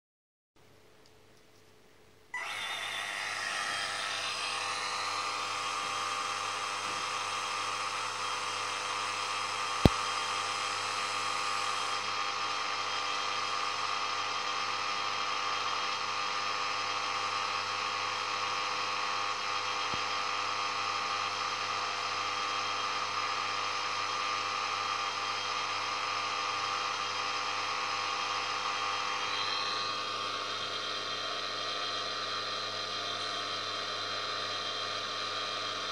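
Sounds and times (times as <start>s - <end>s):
small motor whir: 2.4s - 35.9s.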